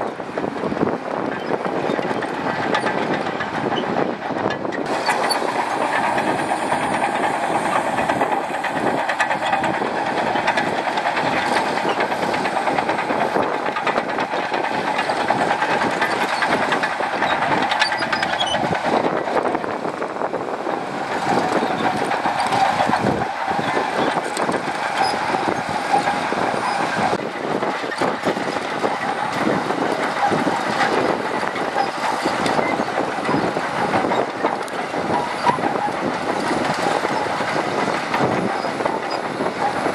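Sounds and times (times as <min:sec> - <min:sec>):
bulldozer diesel engine running: 0:00.0 - 0:39.9
steel tracks clattering: 0:00.4 - 0:39.9.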